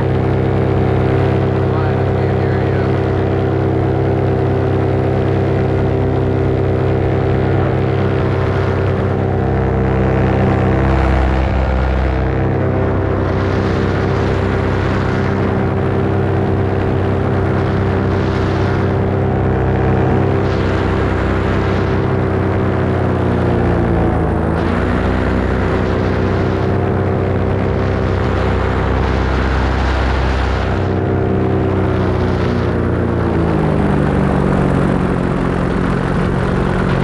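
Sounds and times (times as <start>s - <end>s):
low rumble: 0.0s - 37.0s
paramotor engine drone: 0.0s - 37.0s.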